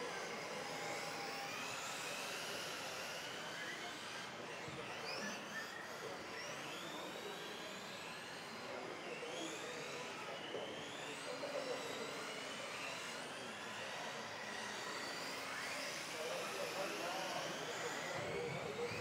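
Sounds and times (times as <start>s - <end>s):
electric rc car motors whining: 0.0s - 19.0s.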